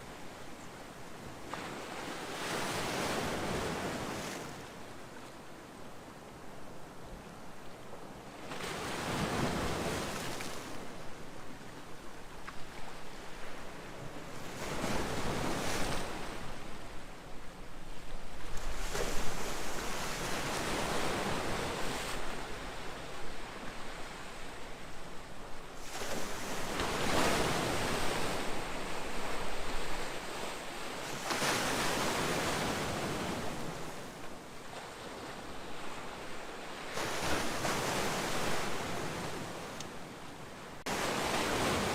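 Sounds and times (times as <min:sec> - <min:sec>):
sea waves breaking on shore: 0:01.3 - 0:05.1, 0:08.3 - 0:11.9, 0:12.6 - 0:17.2, 0:17.9 - 0:24.9, 0:25.6 - 0:41.9.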